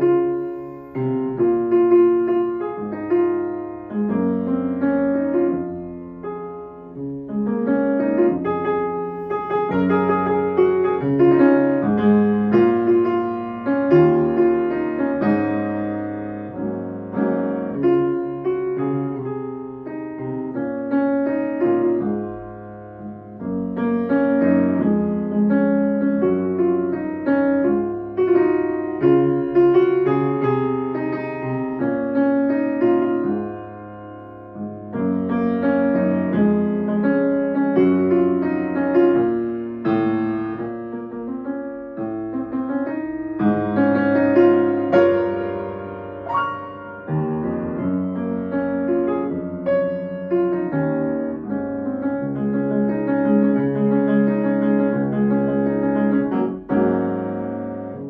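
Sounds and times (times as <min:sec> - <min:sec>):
solo piano pop ballad: 0:00.0 - 0:58.0.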